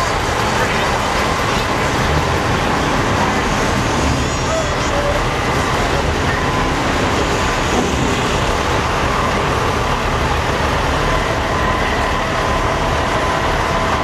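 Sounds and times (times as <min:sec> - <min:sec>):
diesel trucks idling: 0:00.0 - 0:14.0.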